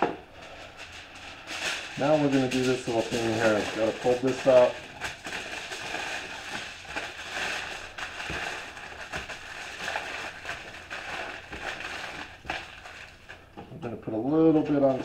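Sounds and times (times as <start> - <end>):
aluminium foil crinkling: 0.3 - 15.0.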